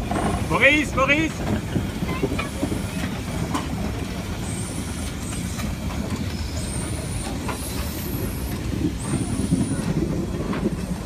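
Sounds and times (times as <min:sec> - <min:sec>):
steam locomotive rumbling: 0:00.0 - 0:11.0.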